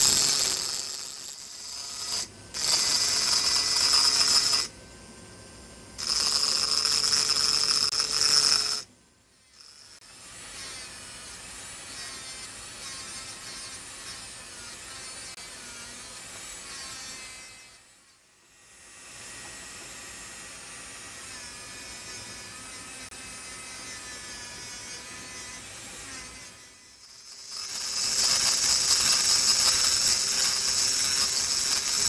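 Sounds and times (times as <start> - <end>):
engraving drill grinding glass: 0.0 - 4.7, 6.0 - 8.9, 9.5 - 32.0.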